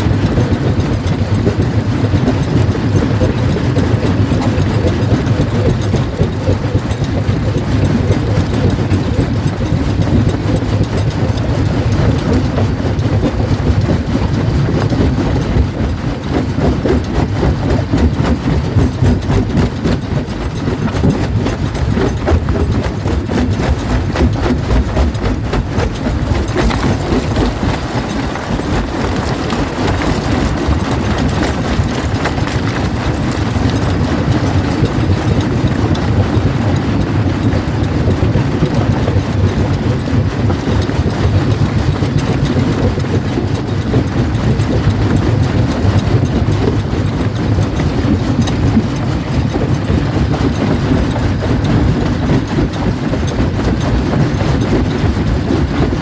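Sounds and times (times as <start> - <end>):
rock crusher rumbling: 0.0 - 56.0.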